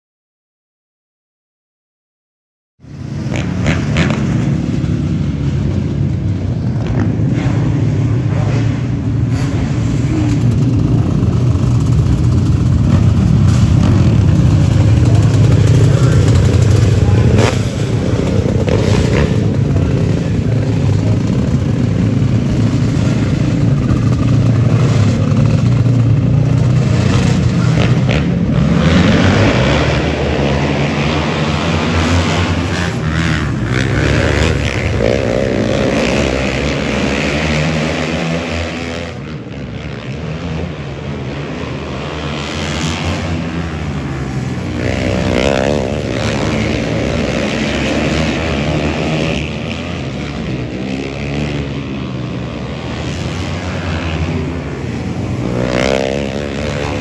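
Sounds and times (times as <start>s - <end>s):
vehicle engines running: 2.8s - 57.0s.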